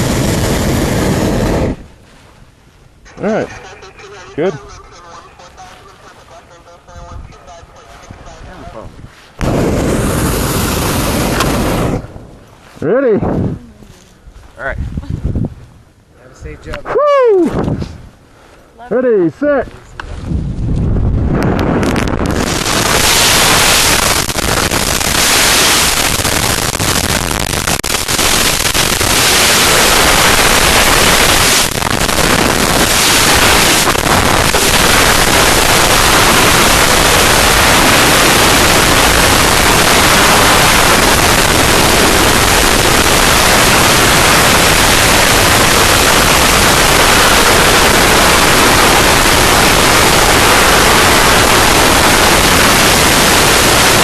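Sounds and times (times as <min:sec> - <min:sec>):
wind buffeting microphone: 0:00.0 - 0:02.6, 0:06.9 - 0:18.3, 0:19.8 - 0:54.0.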